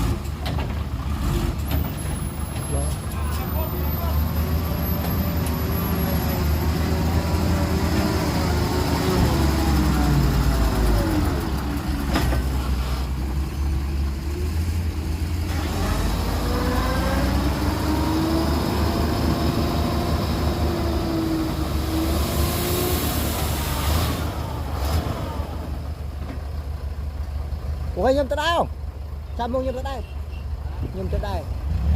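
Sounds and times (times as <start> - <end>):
diesel machinery engine rumbling: 0.0 - 31.9.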